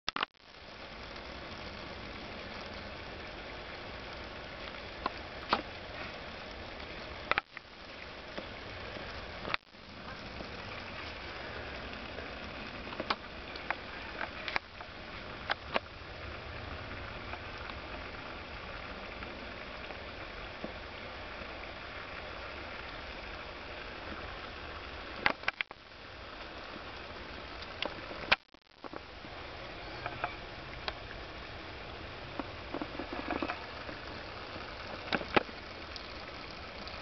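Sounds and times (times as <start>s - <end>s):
outdoor background hiss: 0.2s - 37.0s.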